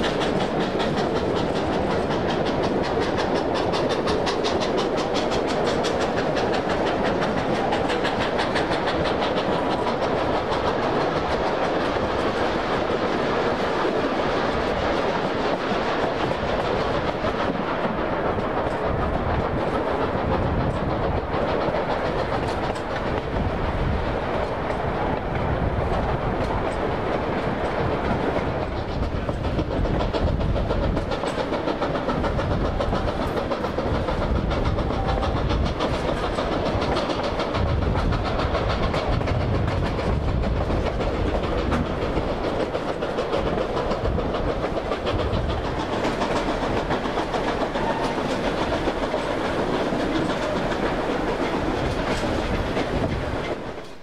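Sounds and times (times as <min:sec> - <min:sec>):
clicking over rail joints: 0:00.0 - 0:54.0
train wheels rumbling on rail: 0:00.0 - 0:54.0.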